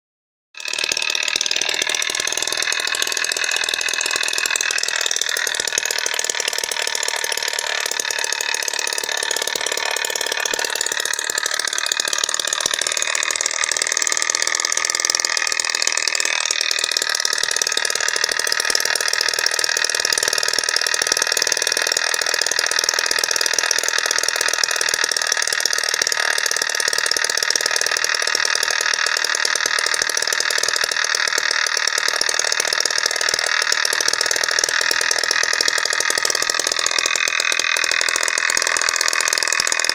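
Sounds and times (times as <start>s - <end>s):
small two-stroke engine rattly buzz: 0.6s - 39.9s.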